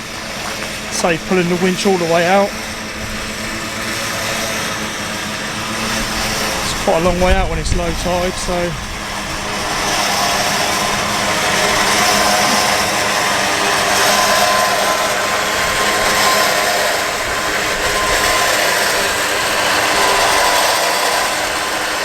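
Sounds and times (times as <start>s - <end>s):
boat winch motor whining: 0.0s - 22.0s.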